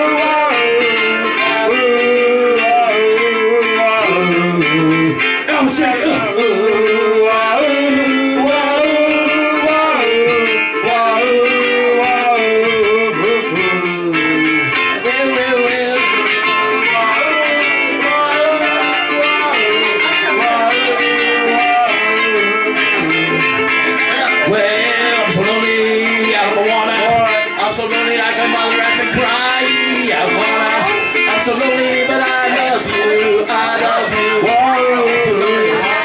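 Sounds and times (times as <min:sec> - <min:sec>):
person singing wordless melody: 0:00.0 - 0:36.0.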